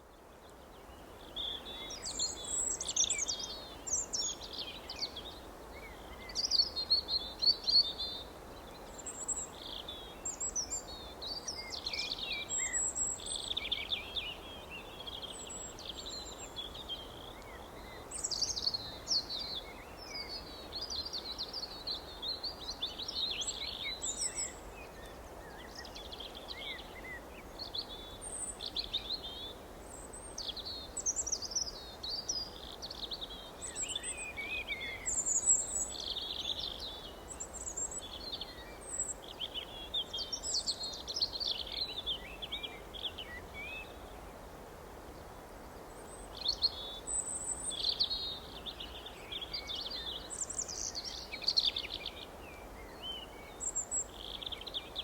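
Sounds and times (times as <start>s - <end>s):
steady background hiss: 0.0s - 55.0s
small birds singing and chirping: 0.7s - 44.1s, 46.0s - 55.0s.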